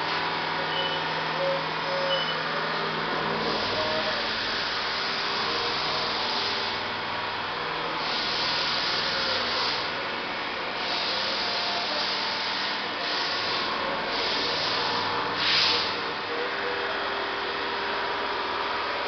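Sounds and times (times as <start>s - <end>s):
workshop machine hum: 0.0s - 19.0s.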